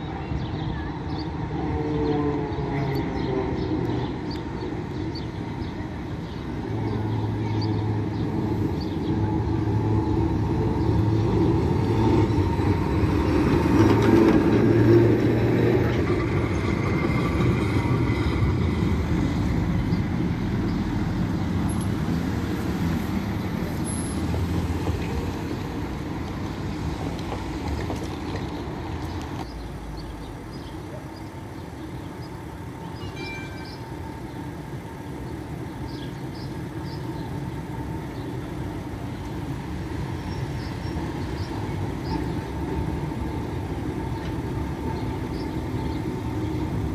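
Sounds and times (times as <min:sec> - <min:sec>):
tram wheels rumbling on rails: 0:00.0 - 0:46.9
tram motor hum: 0:00.9 - 0:46.9.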